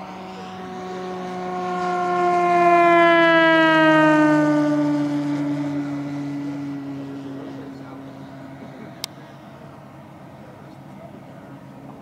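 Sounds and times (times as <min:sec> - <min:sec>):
model plane propeller buzzing past: 0:00.0 - 0:12.0.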